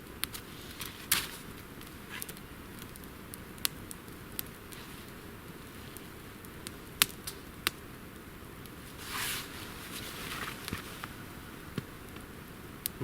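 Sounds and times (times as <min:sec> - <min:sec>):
campfire crackling: 0:00.0 - 0:13.0
fire hissing: 0:00.0 - 0:13.0.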